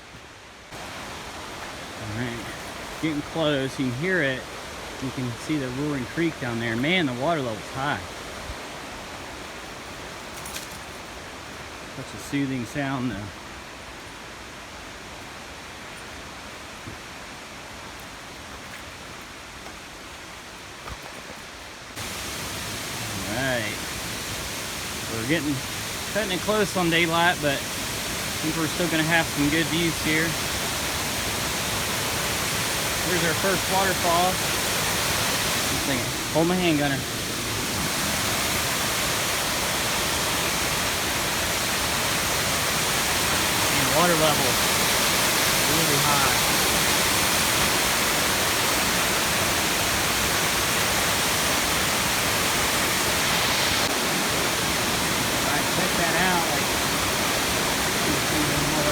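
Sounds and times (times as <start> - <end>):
creek water rushing: 0.0 - 58.9.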